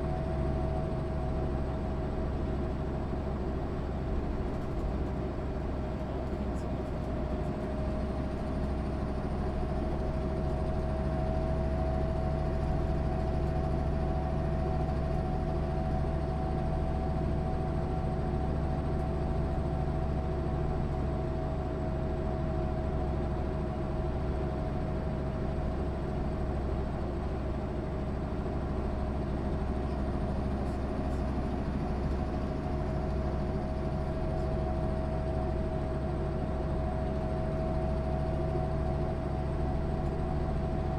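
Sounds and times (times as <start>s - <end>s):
bus engine rumble: 0.0s - 40.9s.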